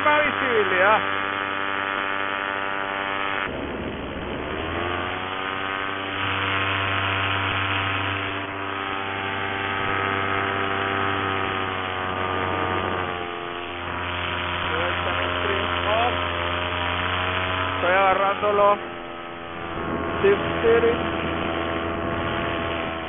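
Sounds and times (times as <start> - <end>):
paramotor engine and propeller: 0.0 - 23.0.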